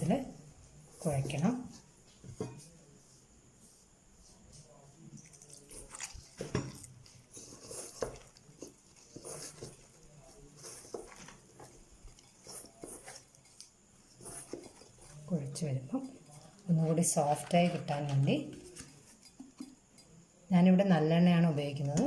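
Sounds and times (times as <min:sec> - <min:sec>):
hands kneading dough: 0:00.0 - 0:20.2.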